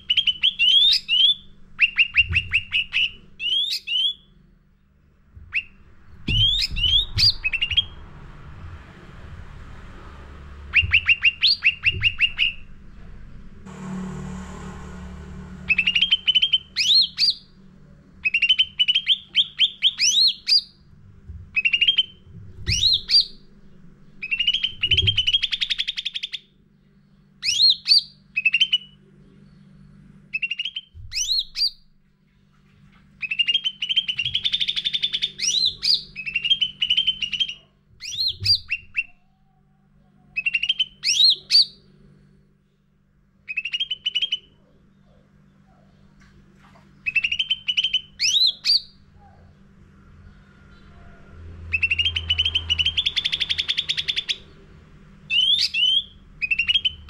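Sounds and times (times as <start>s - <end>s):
songbird chirping: 0.0s - 8.1s, 10.6s - 13.2s, 15.0s - 20.8s, 21.6s - 32.4s, 33.2s - 42.1s, 43.5s - 57.0s
steady low hum: 0.0s - 57.0s.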